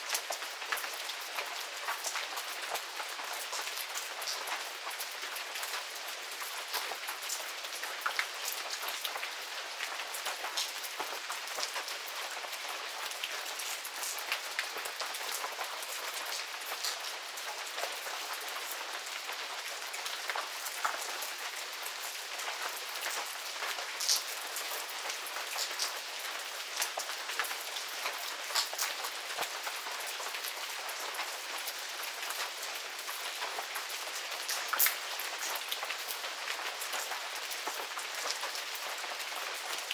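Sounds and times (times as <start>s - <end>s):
rain falling: 0.0s - 39.9s
raindrops pattering on surfaces: 0.0s - 39.9s.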